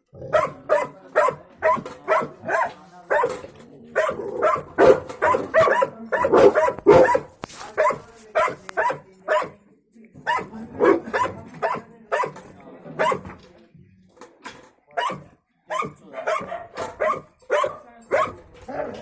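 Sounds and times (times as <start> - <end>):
dog barking: 0.2 - 3.4, 4.0 - 9.6, 10.2 - 13.4, 15.0 - 19.0.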